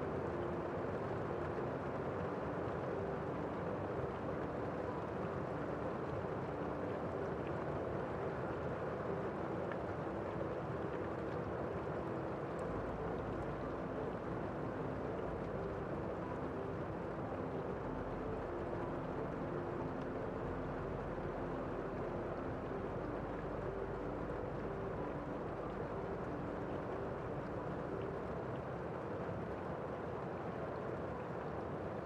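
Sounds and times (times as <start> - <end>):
muffled rain hiss: 0.0 - 32.0.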